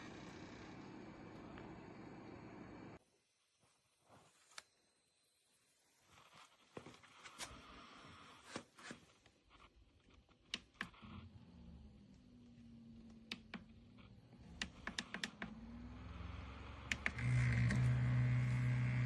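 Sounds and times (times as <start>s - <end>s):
faint low hum: 0.0s - 8.5s, 9.2s - 19.0s.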